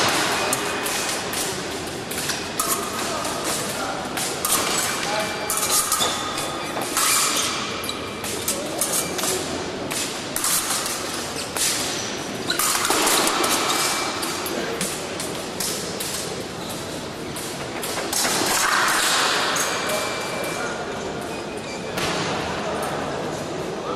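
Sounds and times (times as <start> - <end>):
fencing footwork and blade taps: 0.0 - 20.6
murmur of voices echoing: 0.0 - 23.9.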